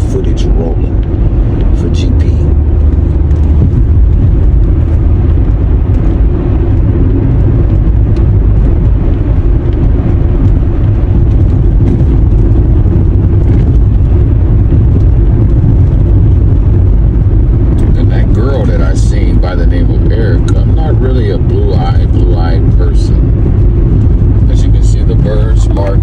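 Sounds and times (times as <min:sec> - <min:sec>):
moving vehicle rumble: 0:00.0 - 0:26.0
road and wind noise: 0:00.0 - 0:26.0.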